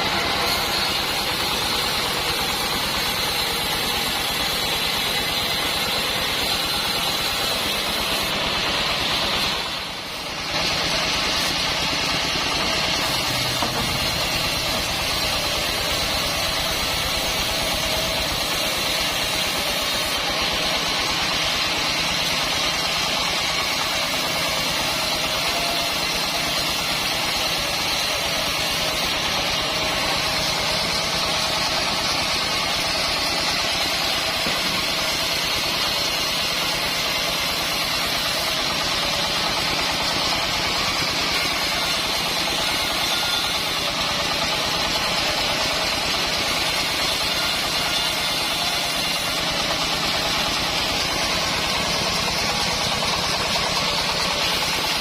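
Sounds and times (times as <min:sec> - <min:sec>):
band sawmill running: 0:00.0 - 0:55.0
high saw blade whine: 0:00.0 - 0:55.0.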